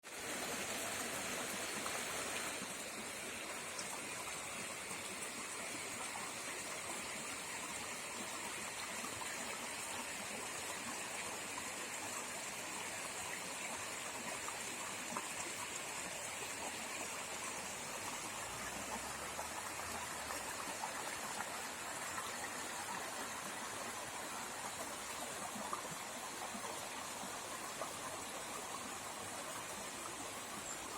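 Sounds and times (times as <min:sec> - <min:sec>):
river flowing over rocks: 0:00.1 - 0:30.9.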